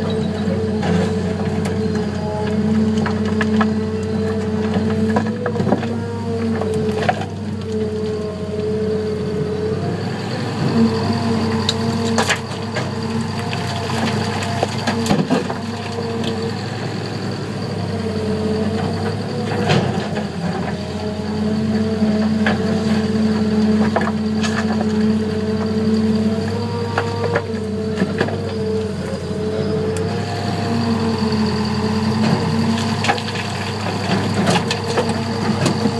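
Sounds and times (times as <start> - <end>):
heavy diesel engines running: 0.0 - 35.9.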